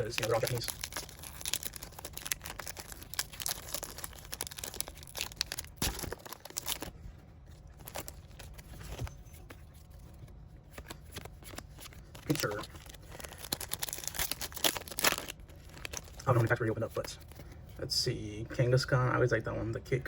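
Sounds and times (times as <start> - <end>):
foil wrapper crinkling and tearing: 0.0 - 9.2, 9.8 - 17.5.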